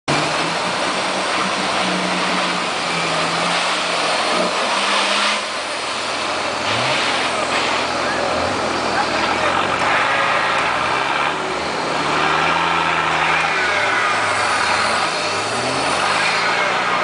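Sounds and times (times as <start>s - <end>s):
truck engine revving: 0.1s - 17.0s.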